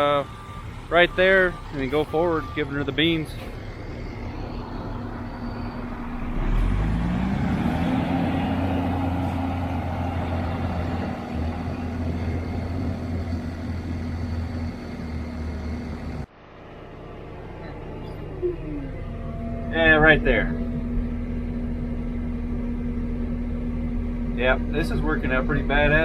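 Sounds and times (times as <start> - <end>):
heavy diesel engine revving: 0.0 - 26.0.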